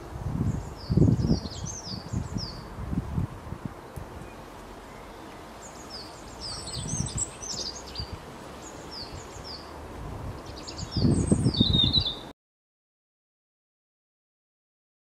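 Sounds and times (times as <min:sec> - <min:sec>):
songbirds chirping: 0:00.0 - 0:12.3.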